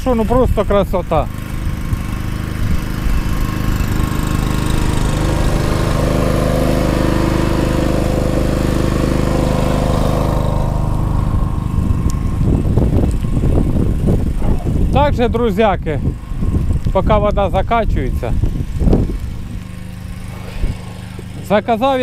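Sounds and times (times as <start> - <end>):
petrol generator running: 0.0 - 22.0.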